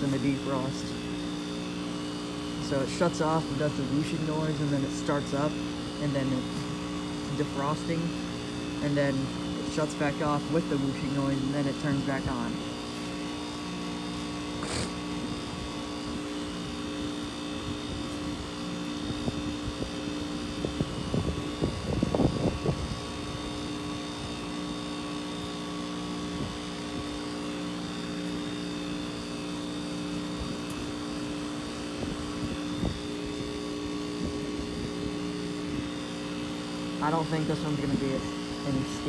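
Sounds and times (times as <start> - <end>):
heat pump humming with tones: 0.0 - 39.0.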